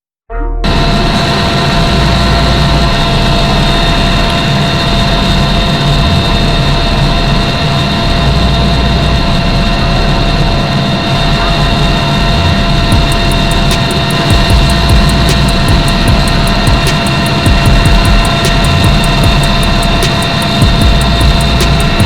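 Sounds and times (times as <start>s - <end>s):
helicopter engine and rotor: 0.8s - 22.0s.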